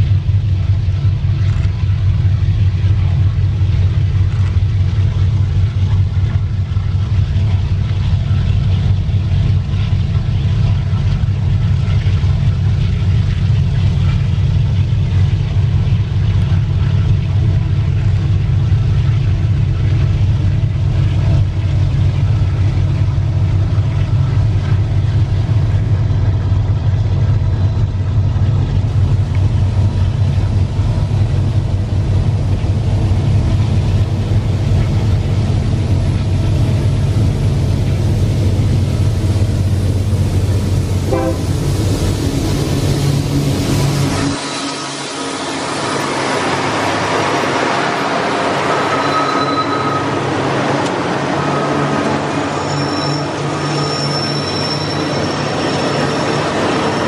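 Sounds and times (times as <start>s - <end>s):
locomotive engine rumble: 0.0s - 57.0s
train wheels on rail: 0.9s - 57.0s.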